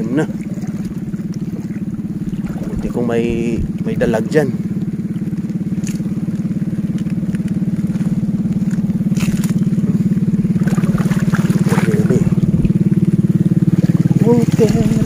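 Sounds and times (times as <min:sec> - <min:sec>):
small engine chugging: 0:00.0 - 0:15.0.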